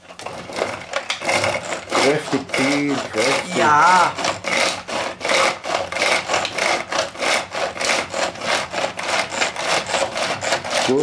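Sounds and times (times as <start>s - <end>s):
pull-cord food chopper whirring: 0.0s - 11.0s.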